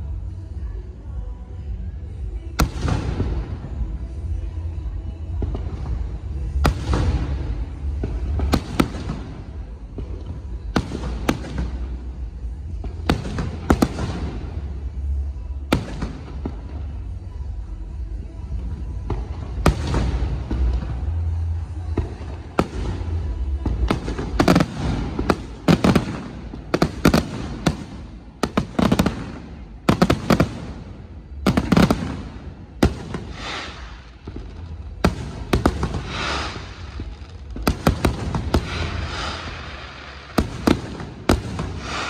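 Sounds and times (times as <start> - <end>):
crackling fireworks stars fizzing: 1.6 - 42.0
fireworks bursting with sharp bangs: 1.6 - 42.0.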